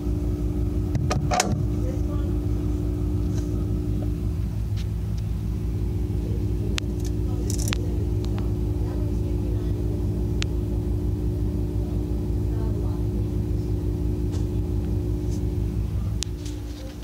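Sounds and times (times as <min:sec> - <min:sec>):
mechanical hum and rumble: 0:00.0 - 0:17.0.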